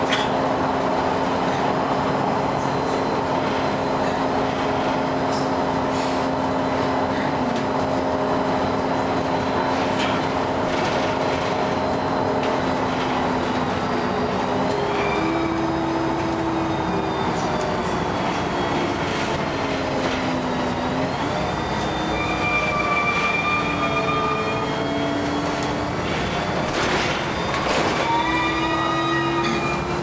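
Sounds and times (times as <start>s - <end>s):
bus drivetrain rumble: 0.0s - 30.0s.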